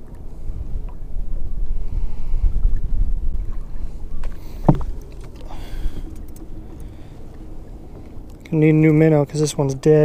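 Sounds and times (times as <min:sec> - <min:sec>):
low rumble of wind: 0:00.0 - 0:10.0
water around a boat: 0:00.0 - 0:10.0.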